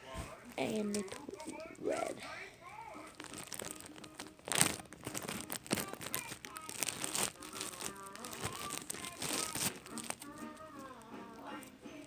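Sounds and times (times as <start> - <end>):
plastic packaging crinkling: 0.4 - 1.8, 2.7 - 11.7.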